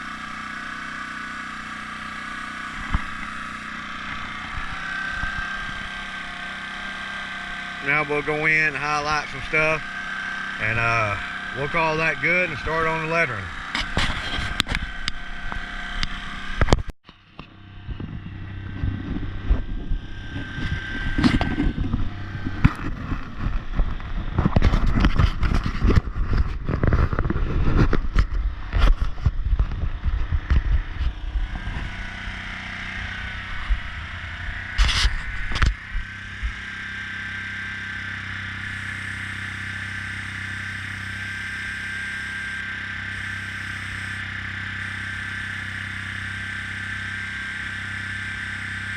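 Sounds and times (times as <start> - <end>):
small motor whining: 0.0 - 48.9.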